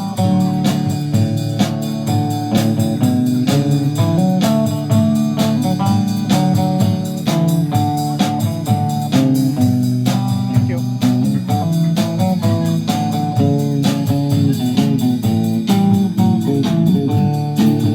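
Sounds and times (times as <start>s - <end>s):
bass line: 0.0s - 17.9s
guitar melody: 0.0s - 17.9s
steady drum beat: 0.0s - 17.9s.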